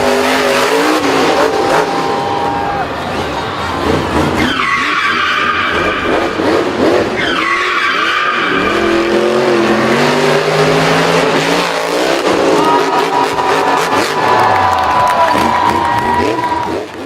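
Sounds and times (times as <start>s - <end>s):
racing car engine revving: 0.0s - 17.0s
tyres skidding and squealing: 0.0s - 17.0s.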